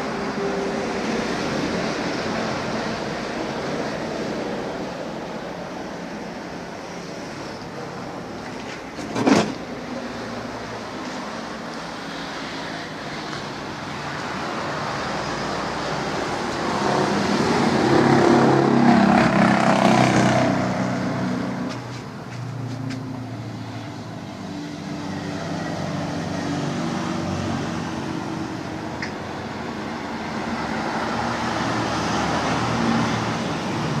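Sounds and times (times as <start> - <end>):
vehicles passing on a road: 0.0 - 34.0.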